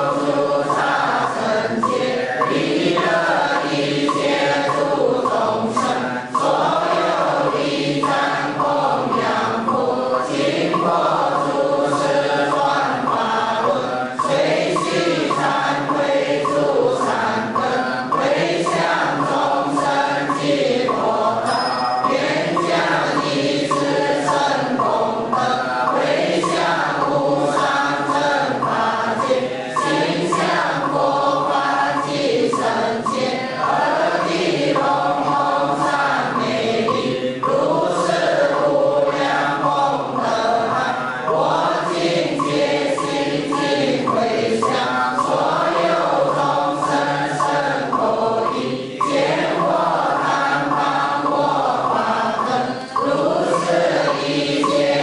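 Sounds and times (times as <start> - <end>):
congregation chanting in unison: 0.0 - 55.0.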